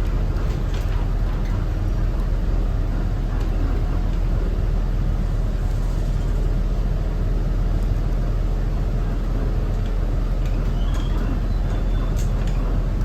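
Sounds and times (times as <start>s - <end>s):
diesel bus engine rumbling: 0.0s - 13.0s.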